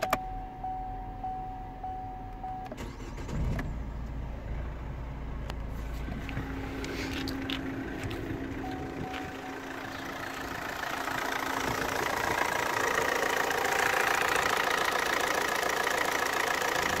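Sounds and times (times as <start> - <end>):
diesel engine idling: 0.2 - 17.0.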